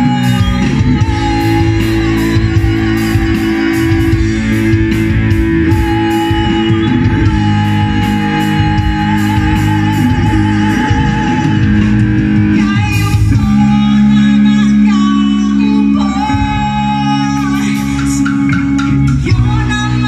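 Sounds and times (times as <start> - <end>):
distorted electric guitars: 0.0 - 20.0
drum kit: 0.0 - 20.0.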